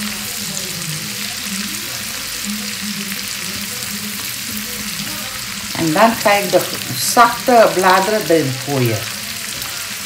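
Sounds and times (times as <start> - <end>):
vegetables sizzling in butter: 0.0 - 10.0.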